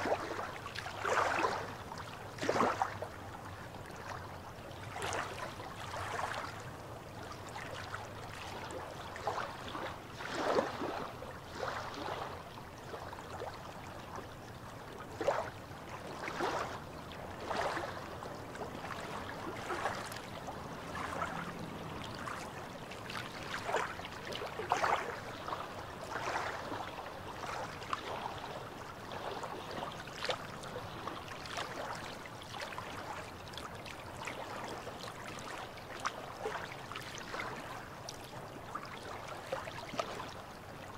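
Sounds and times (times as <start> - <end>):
small waves lapping on rocks: 0.0 - 40.9.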